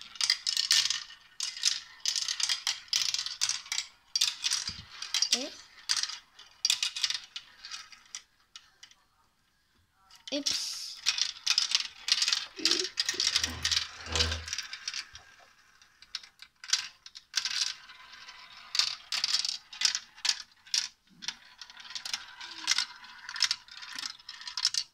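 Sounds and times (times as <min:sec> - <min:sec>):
marbles clattering down plastic run: 0:00.0 - 0:09.0, 0:10.3 - 0:24.9.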